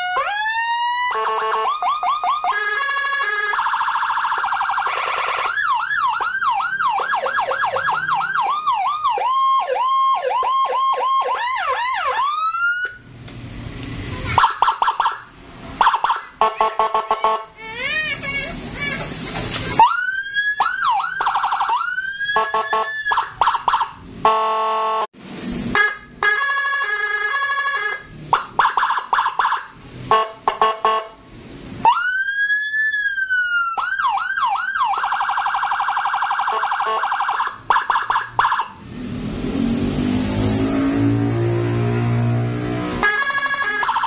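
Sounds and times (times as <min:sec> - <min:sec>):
police siren wailing and yelping: 0:00.0 - 0:13.1, 0:14.3 - 0:18.4, 0:19.3 - 0:25.1, 0:25.8 - 0:31.1, 0:31.8 - 0:38.8, 0:42.8 - 0:44.0.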